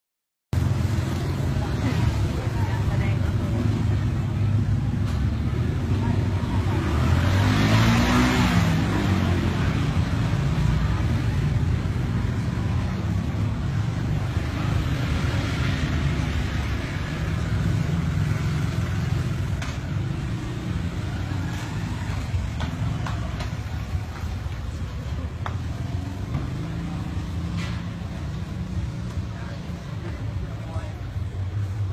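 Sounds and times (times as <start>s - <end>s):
road traffic rumble: 0.5s - 31.9s.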